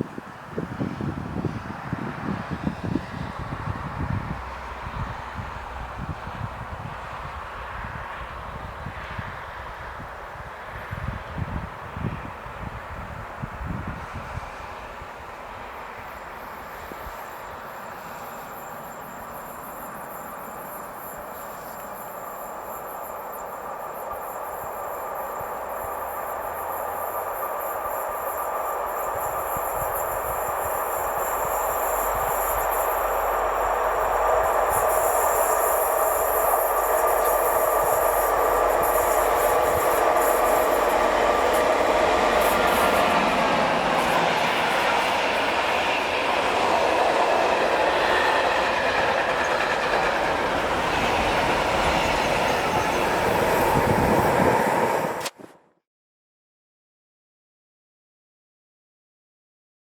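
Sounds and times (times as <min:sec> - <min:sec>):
train wheels rumbling on rail: 0:00.0 - 0:55.6.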